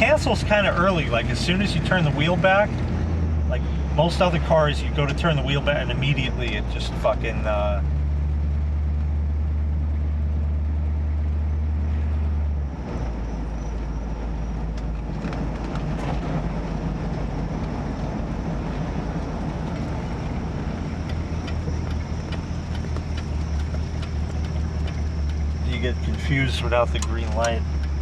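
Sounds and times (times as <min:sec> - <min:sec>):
car engine from inside cabin: 0:00.0 - 0:28.0.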